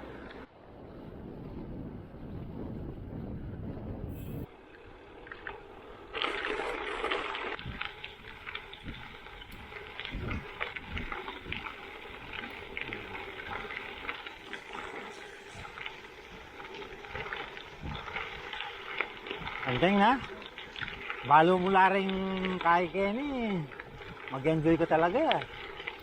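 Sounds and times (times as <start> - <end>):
wind buffeting microphone: 0.0 - 5.1, 6.6 - 26.0
bicycle tyres rolling: 0.0 - 26.0.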